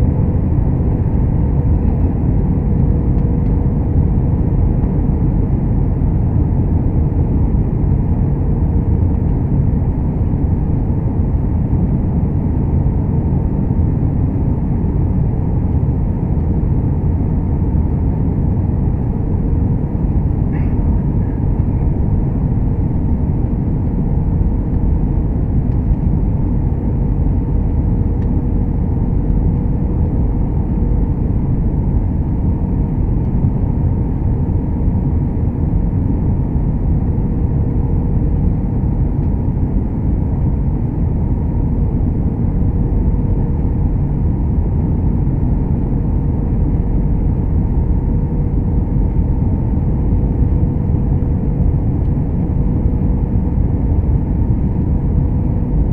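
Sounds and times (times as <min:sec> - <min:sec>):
airliner low rumble: 0:00.0 - 0:55.9.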